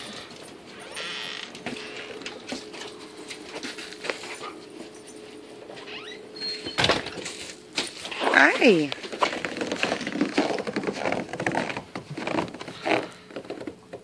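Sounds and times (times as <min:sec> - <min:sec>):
dog paws clicking on wooden deck: 0:00.0 - 0:06.2, 0:07.1 - 0:14.0.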